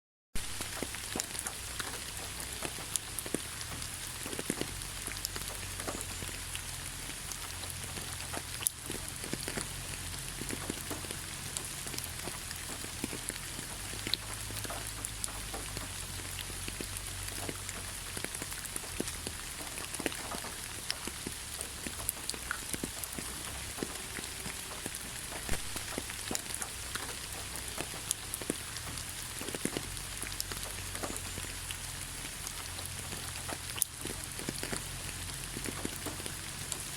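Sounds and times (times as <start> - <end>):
rain on leaves: 0.4 - 36.9.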